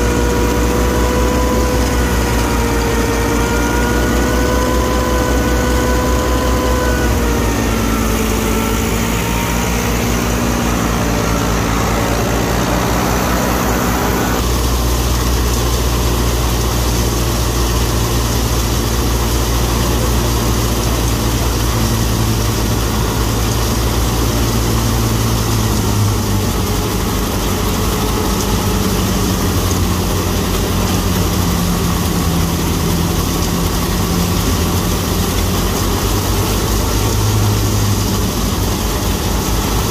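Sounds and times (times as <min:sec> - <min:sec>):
diesel tractor engine running: 0:00.0 - 0:39.9
thresher droning: 0:00.0 - 0:39.9.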